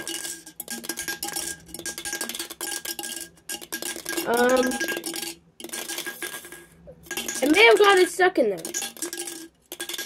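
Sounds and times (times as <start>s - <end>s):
coin rattling inside a can: 0.0s - 10.0s.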